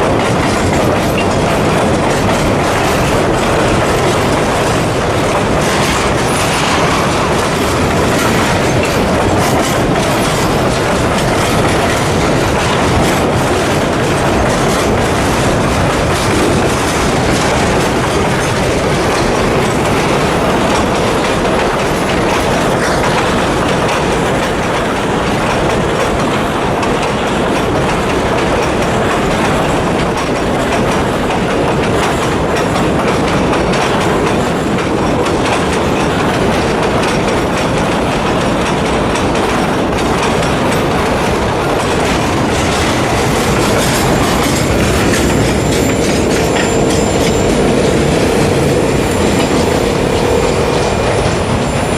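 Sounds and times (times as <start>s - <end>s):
wheels clacking over rail joints: 0.0s - 51.9s.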